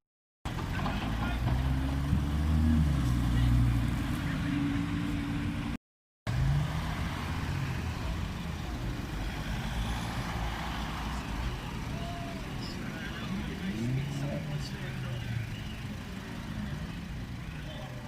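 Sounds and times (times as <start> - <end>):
street traffic noise: 0.5 - 18.0.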